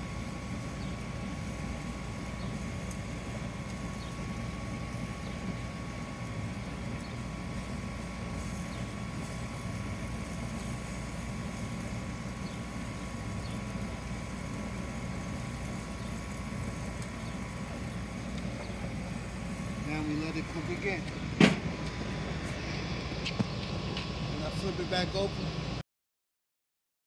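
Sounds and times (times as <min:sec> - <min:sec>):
low outdoor rumble: 0:00.0 - 0:25.8.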